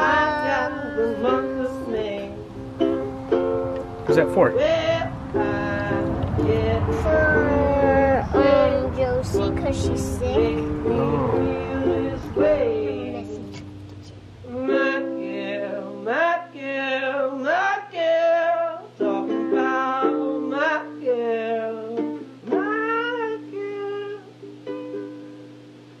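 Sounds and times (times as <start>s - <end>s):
plucked string accompaniment: 0.0s - 26.0s
sung acoustic melody: 0.0s - 26.0s.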